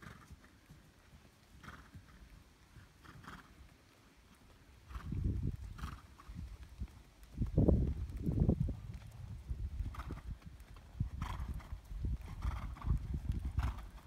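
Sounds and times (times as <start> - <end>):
horse hoofbeats on sand: 0.0 - 2.4, 4.3 - 14.0.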